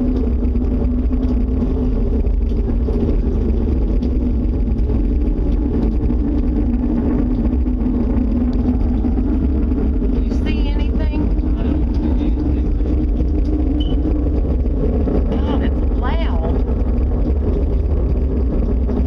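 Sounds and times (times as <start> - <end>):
loud low droning rumble: 0.0 - 19.0.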